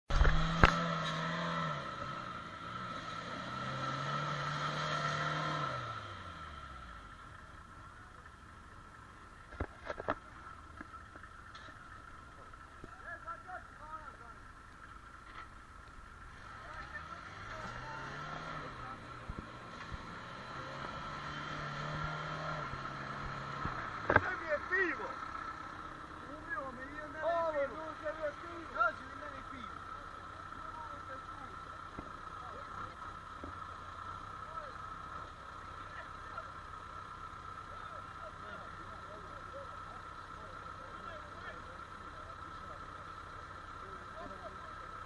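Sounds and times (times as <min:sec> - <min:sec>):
engine revving: 0:00.1 - 0:07.6, 0:16.1 - 0:45.0.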